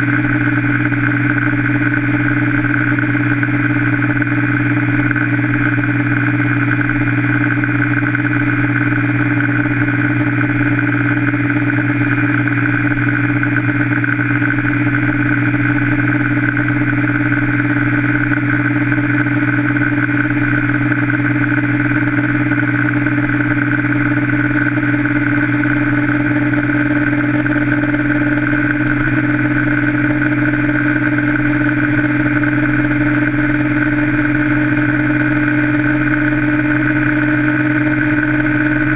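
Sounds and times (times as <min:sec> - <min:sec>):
motorcycle engine running flat out: 0:00.0 - 0:38.9.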